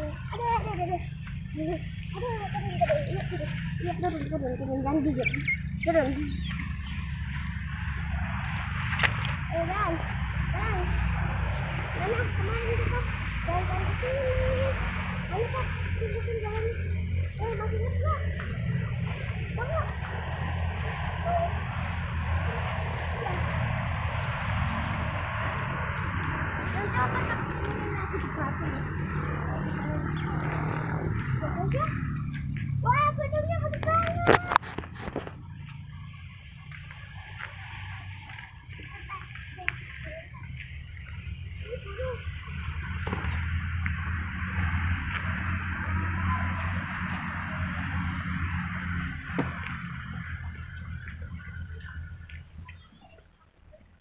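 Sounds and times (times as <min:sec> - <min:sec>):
otter squeaky chirps: 0:00.0 - 0:53.5
steady low rumble: 0:00.0 - 0:54.0.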